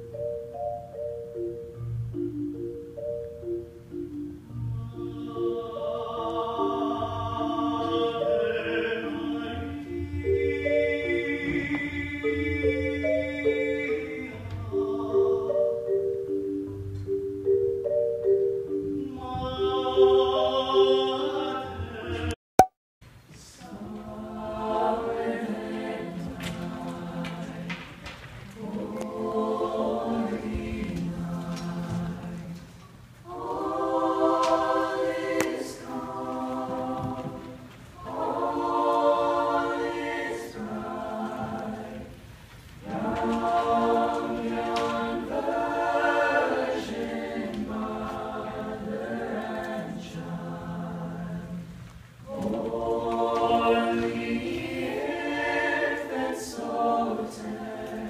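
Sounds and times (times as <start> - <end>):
choir singing: 4.5 - 16.4, 18.3 - 22.4, 23.4 - 58.0.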